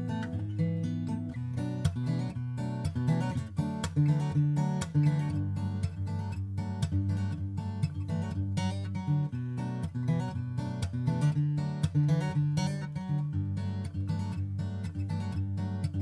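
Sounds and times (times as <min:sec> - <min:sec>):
acoustic guitar tune: 0:00.0 - 0:16.0.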